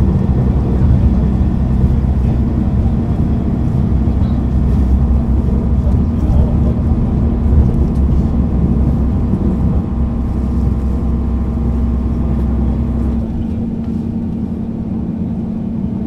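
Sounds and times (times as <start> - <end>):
constant hum: 0.0 - 16.0
diesel engine idling: 0.0 - 16.0.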